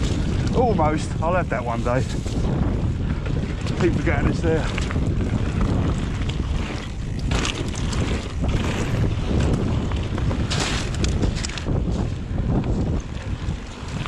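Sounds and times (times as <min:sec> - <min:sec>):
low rumble: 0:00.0 - 0:14.0
wind buffeting microphone: 0:00.0 - 0:14.0.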